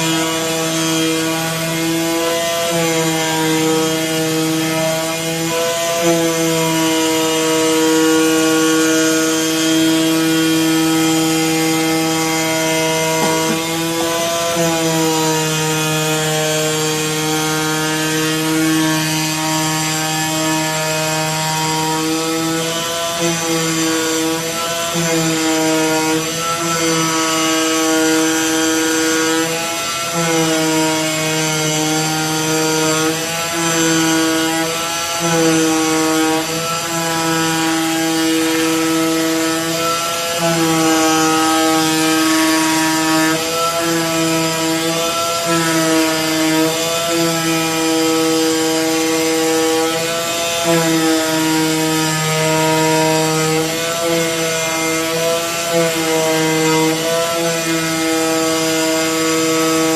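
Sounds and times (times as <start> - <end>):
cutting machine buzzing: 0.0 - 59.9.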